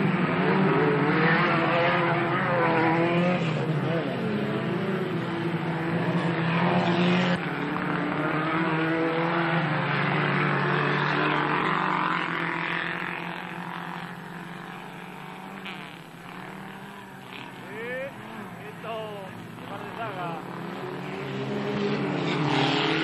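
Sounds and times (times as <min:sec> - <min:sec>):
racing car engines: 0:00.0 - 0:23.0.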